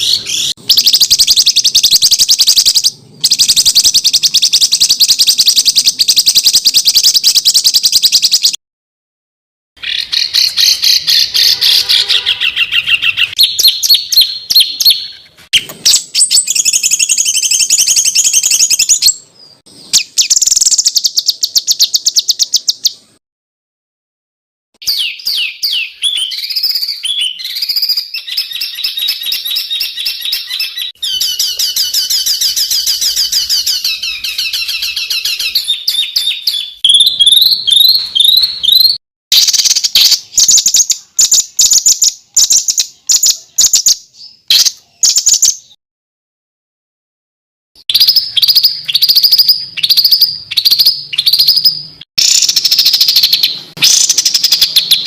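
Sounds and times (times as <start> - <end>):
songbirds chirping and trilling: 0.0 - 8.6, 9.8 - 23.2, 24.8 - 45.8, 47.9 - 55.0.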